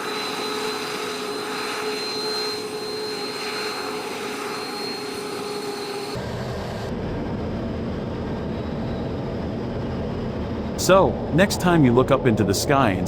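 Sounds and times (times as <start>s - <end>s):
jet engine roar with turbine whine: 0.0s - 13.0s.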